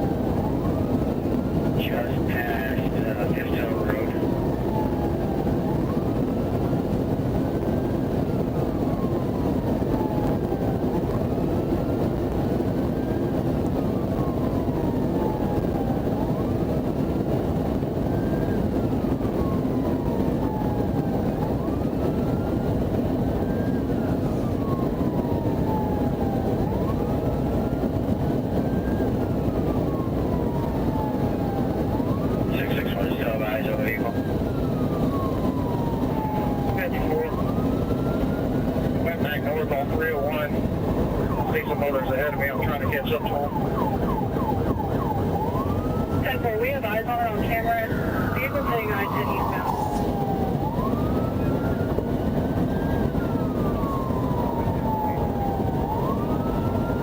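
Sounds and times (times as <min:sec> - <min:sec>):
engine and road noise: 0:00.0 - 0:57.0
police siren wailing: 0:00.0 - 0:57.0.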